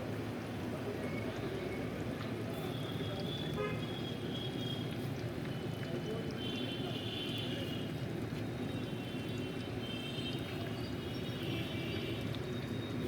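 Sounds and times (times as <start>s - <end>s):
traffic: 0.0s - 13.0s.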